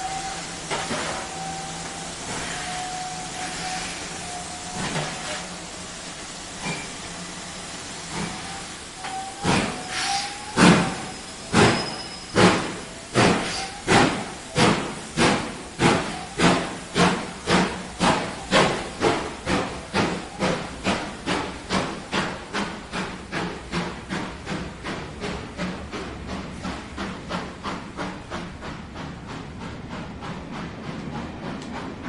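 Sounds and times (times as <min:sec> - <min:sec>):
steam locomotive chuffing: 0:00.0 - 0:32.0.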